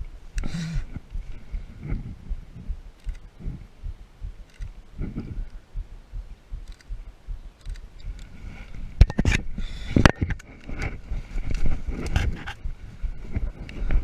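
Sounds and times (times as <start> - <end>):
rustling undergrowth: 0.0 - 14.0.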